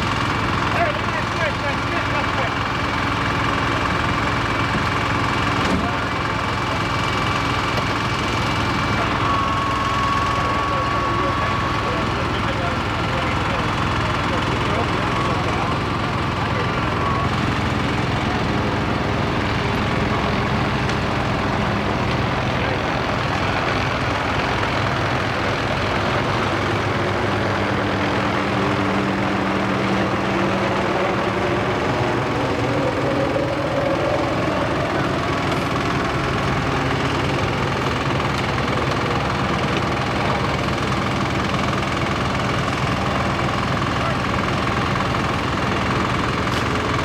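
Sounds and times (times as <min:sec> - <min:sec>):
helicopter engine and rotor: 0:00.0 - 0:47.0.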